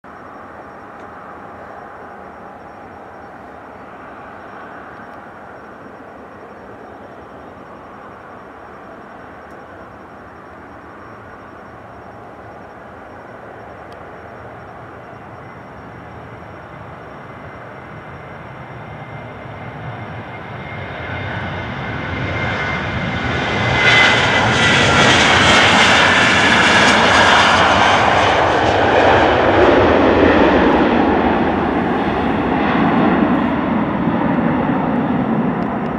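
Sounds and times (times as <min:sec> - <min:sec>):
jet engines at takeoff: 0:00.0 - 0:35.9.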